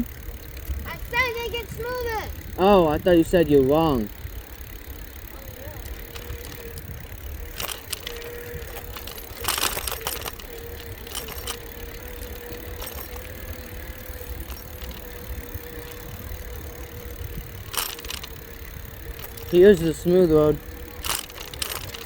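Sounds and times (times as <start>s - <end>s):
bicycle rattling over bumps: 0.0s - 22.0s.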